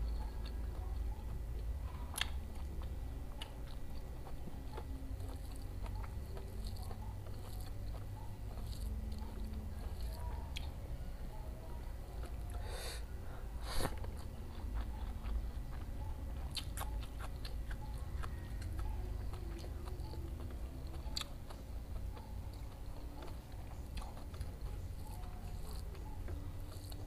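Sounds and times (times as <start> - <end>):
close chewing and crunching: 0.0 - 27.0.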